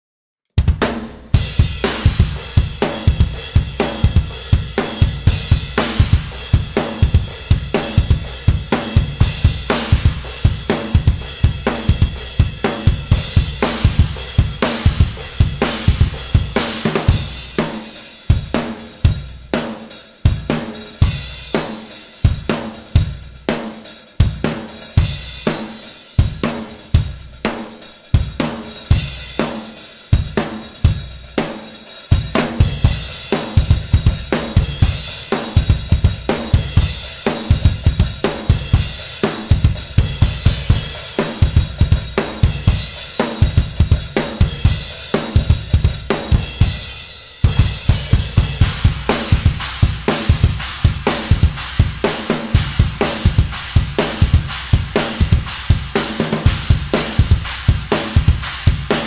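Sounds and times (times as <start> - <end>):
rapid kick drums: 0.6 - 59.0.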